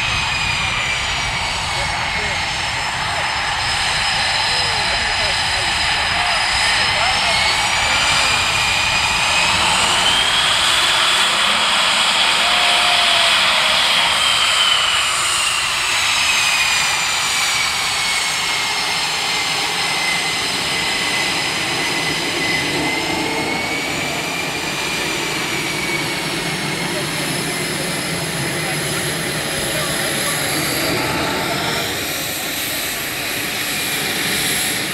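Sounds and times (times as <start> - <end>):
jet engine rushing noise: 0.0 - 34.9
jet engine turbine whine: 0.0 - 34.9.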